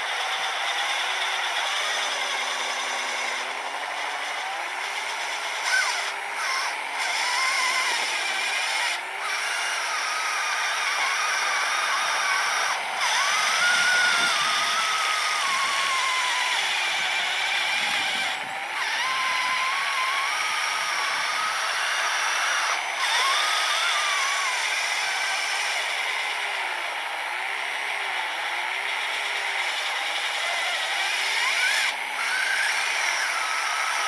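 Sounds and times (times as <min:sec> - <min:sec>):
electric motors whining: 0:00.0 - 0:34.0.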